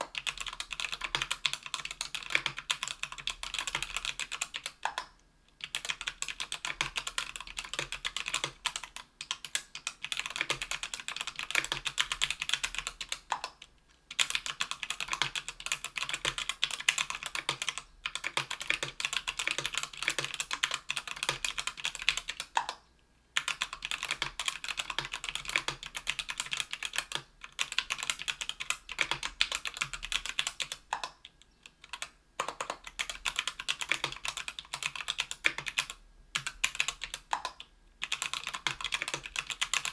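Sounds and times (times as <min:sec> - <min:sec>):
fast keyboard typing: 0:00.0 - 0:22.8, 0:23.4 - 0:39.9.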